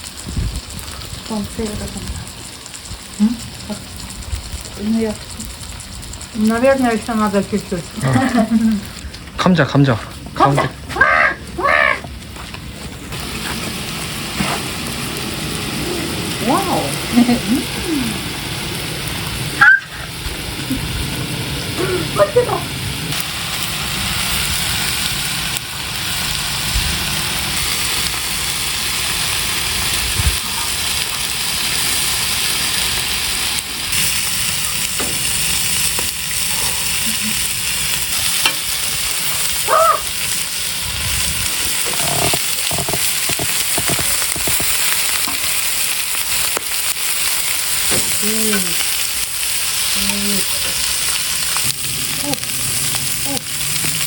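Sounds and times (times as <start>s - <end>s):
food sizzling: 0.0s - 54.0s.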